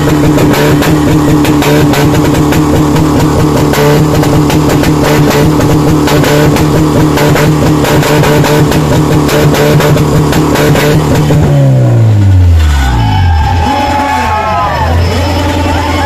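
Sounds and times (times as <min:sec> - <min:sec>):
car engine at high revs: 0:00.0 - 0:14.1, 0:14.9 - 0:16.0.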